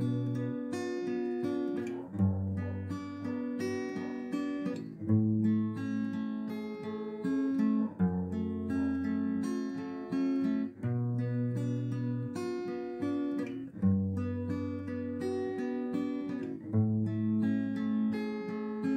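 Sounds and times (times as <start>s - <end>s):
acoustic guitar music: 0.0s - 18.9s.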